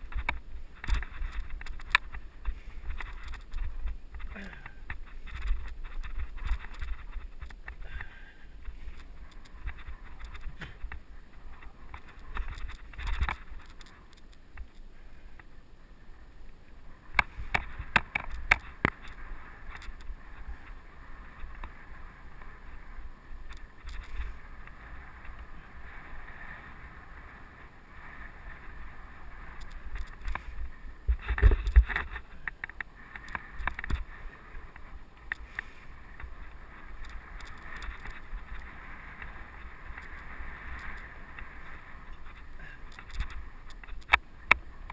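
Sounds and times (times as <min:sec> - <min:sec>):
bike rattling over bumps: 0:00.0 - 0:14.8, 0:17.1 - 0:26.8, 0:27.4 - 0:44.9
tyres and wind rushing: 0:00.0 - 0:44.9.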